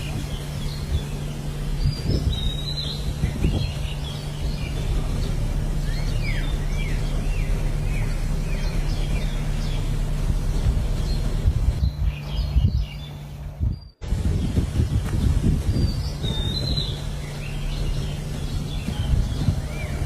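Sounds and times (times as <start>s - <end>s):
low hum and rumble: 0.0s - 20.0s
small birds chirping: 0.0s - 20.0s.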